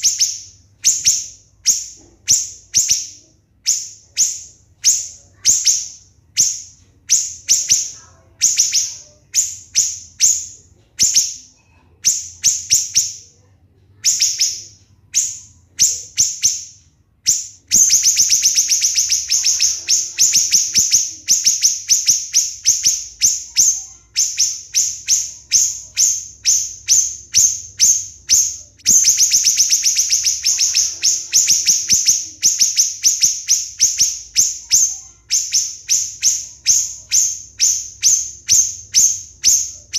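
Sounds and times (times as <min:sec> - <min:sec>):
bird singing shrill notes: 0:00.0 - 0:13.3, 0:14.0 - 0:39.9.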